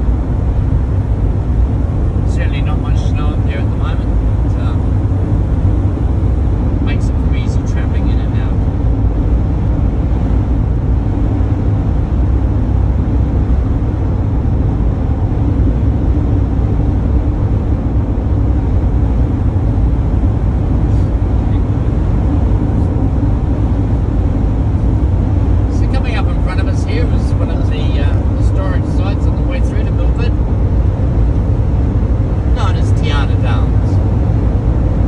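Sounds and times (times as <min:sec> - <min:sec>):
van engine rumble: 0:00.0 - 0:35.0.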